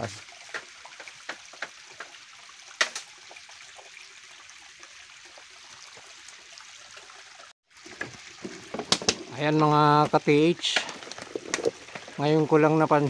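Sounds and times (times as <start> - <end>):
water trickling down rock: 0.0 - 13.0.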